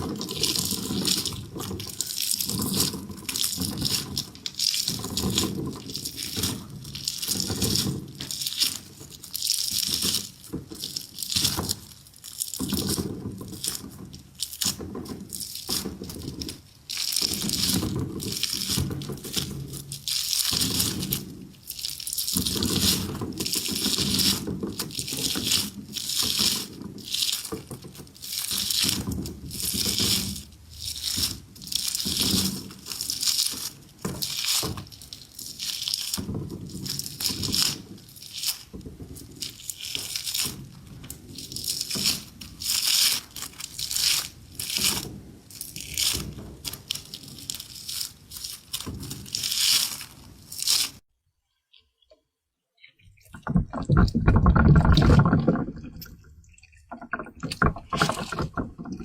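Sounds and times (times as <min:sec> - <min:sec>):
objects crunching and crackling: 0:00.0 - 0:51.0, 0:52.8 - 0:59.0.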